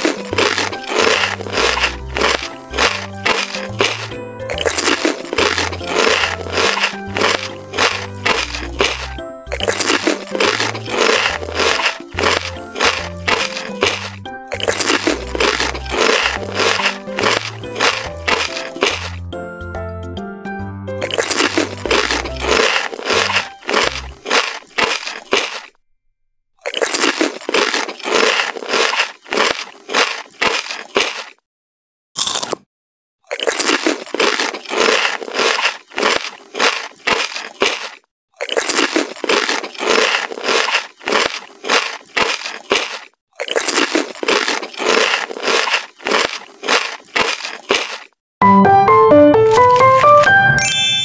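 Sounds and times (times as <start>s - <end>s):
crunchy pork rinds being chewed: 0.0s - 19.2s, 21.0s - 25.8s, 26.6s - 31.4s, 32.2s - 32.6s, 33.2s - 48.2s.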